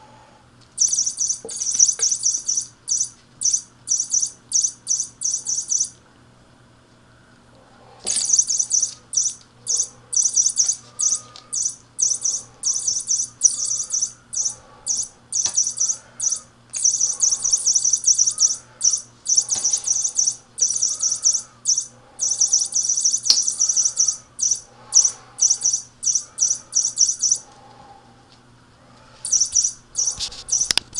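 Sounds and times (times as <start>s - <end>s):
cat toy chirping: 0.8s - 6.0s, 8.1s - 27.5s, 29.2s - 30.9s.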